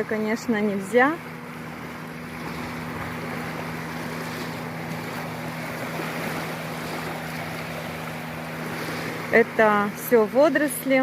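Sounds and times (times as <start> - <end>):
low hum: 0.0 - 11.0
small waves lapping: 0.0 - 11.0
wind: 0.0 - 11.0.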